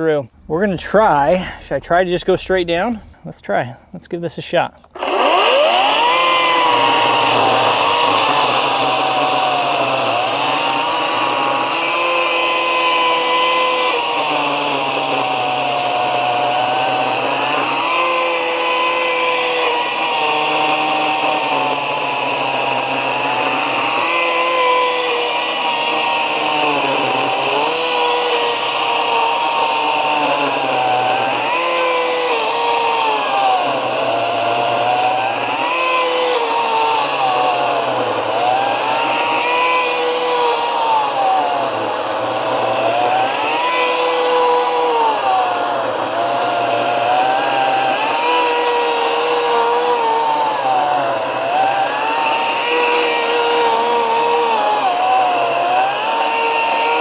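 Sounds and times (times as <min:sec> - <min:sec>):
battery chainsaw cutting wood: 0:04.8 - 0:57.0.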